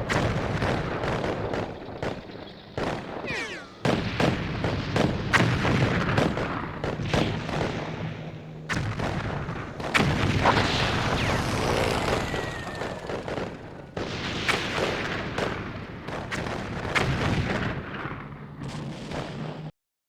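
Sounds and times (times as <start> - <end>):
booming blasts: 0.0 - 19.7
continuous rumble: 0.0 - 19.7
gunshots: 0.0 - 19.7.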